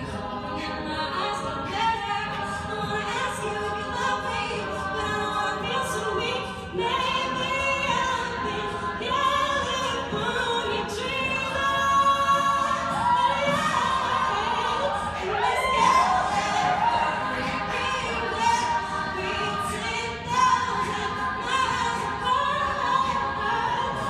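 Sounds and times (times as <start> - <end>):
women singing a cappella: 0.0 - 24.0.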